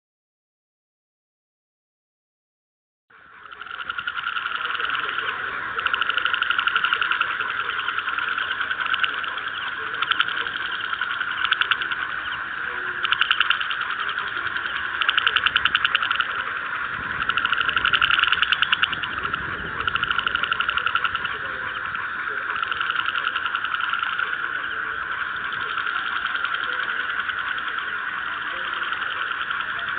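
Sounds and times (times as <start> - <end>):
frogs chorus trilling: 3.1 - 29.9.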